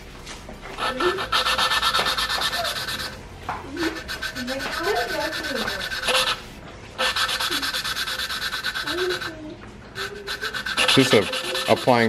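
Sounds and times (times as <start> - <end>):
valve grinding against seat: 0.8 - 3.2, 3.8 - 6.4, 7.0 - 12.0.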